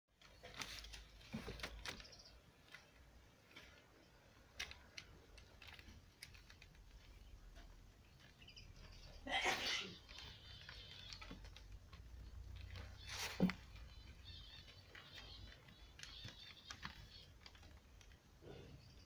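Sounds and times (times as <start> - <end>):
kittens' claws scrabbling on paper: 0.2 - 8.3, 9.5 - 18.6.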